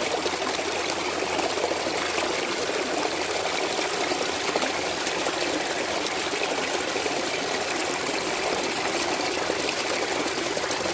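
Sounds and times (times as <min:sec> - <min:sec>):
brook babbling over stones: 0:00.0 - 0:10.9.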